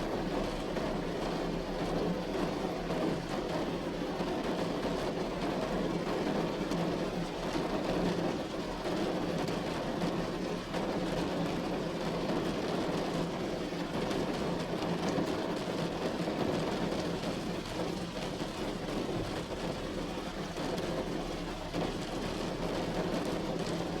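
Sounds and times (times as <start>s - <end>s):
heavy rain on metal roof: 0.0s - 24.0s.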